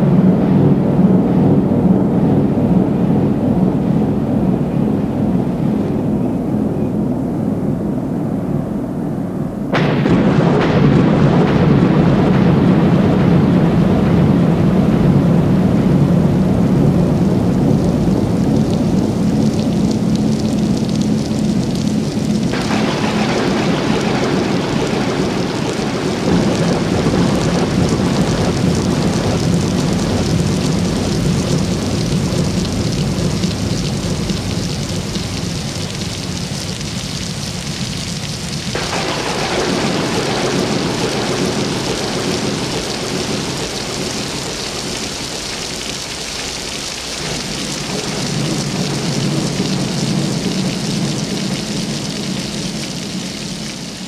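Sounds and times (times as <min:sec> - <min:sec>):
heavy rain: 0:00.0 - 0:54.0
thunder rumble: 0:00.0 - 0:54.0.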